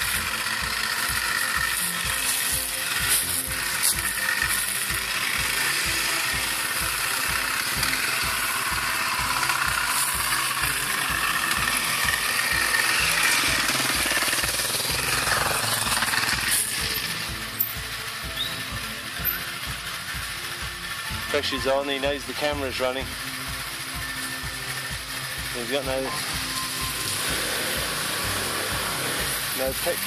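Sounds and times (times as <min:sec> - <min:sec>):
steady low pulsing: 0:00.0 - 0:29.6
dirt bike engine revving: 0:00.0 - 0:30.0.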